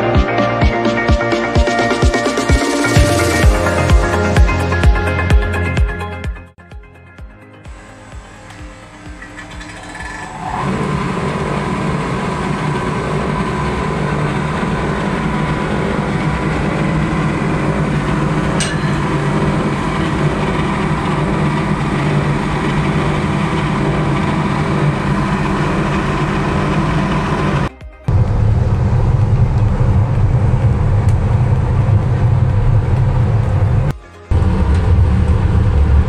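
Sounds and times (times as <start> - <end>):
electric air blower droning: 1.4 - 5.2, 7.7 - 36.0.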